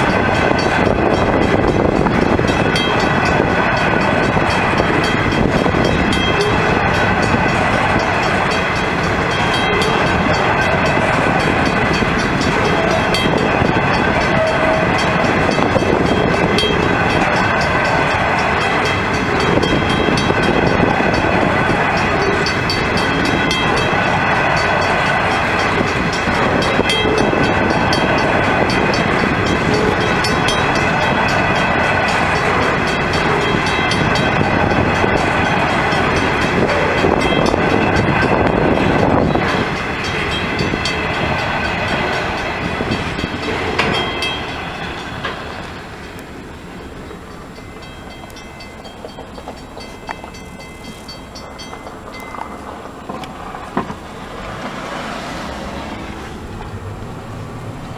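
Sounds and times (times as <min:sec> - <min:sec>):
high ringing: 0:00.0 - 0:53.6
freight train rolling on rails: 0:00.0 - 0:57.9.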